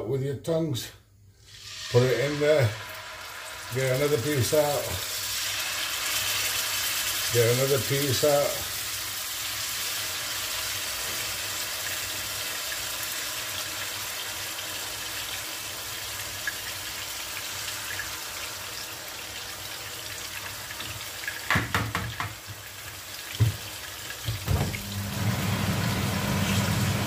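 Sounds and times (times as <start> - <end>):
chicken sizzling in hot oil: 1.4 - 27.0.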